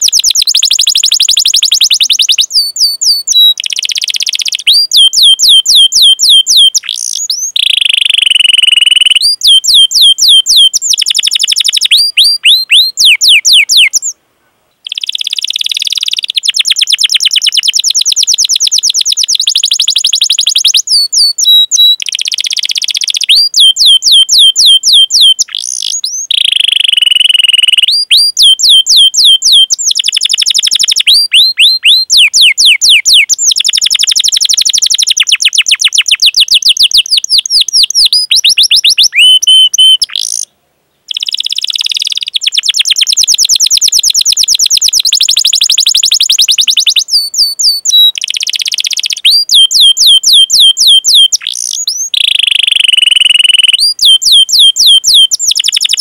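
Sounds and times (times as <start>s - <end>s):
canary singing: 0.0s - 14.2s, 14.8s - 40.5s, 41.1s - 56.0s.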